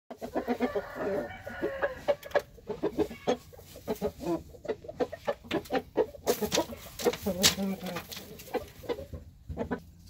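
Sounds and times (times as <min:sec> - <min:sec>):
rooster clucking: 0:00.1 - 0:10.0.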